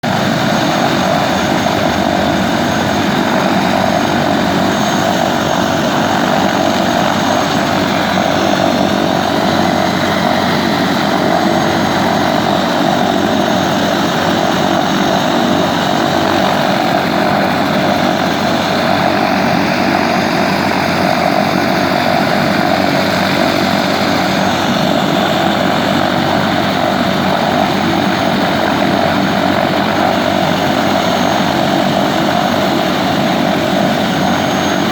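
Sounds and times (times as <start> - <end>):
helicopter engine and rotor: 0.0 - 34.9.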